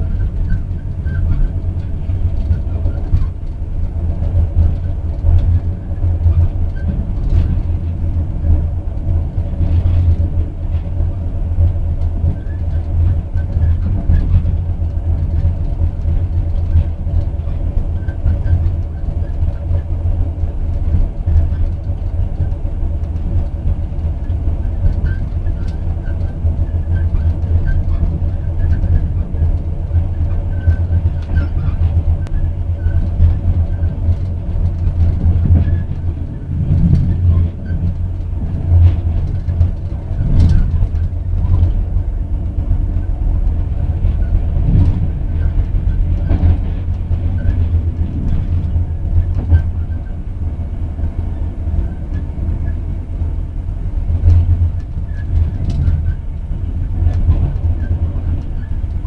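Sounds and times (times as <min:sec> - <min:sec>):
train knocks: 0:00.0 - 0:59.0
train rumbling on track: 0:00.0 - 0:59.0.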